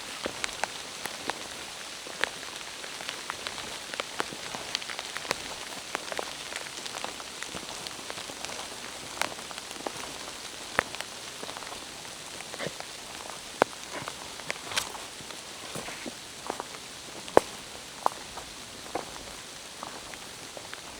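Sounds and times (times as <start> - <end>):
rain hissing: 0.0 - 20.9.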